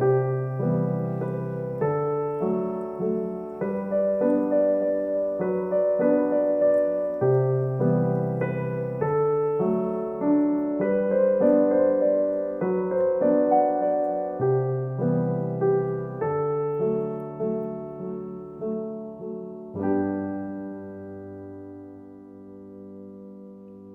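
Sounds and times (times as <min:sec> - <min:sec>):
slow piano piece: 0:00.0 - 0:23.9.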